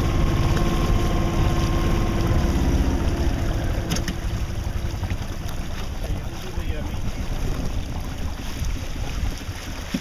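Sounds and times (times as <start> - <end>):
boat engine idling hum: 0.0 - 10.0
wind rumble on microphone: 0.0 - 10.0.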